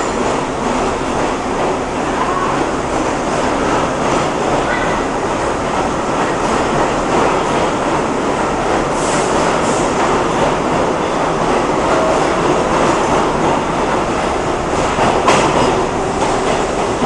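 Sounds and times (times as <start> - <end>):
subway train wheels and running gear: 0.0 - 17.0.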